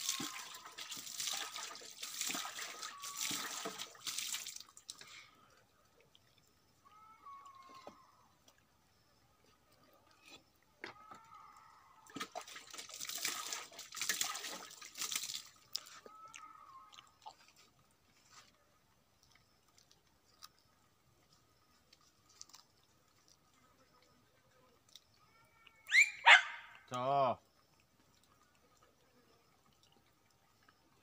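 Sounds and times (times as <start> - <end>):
faint running water: 0.0 - 31.0.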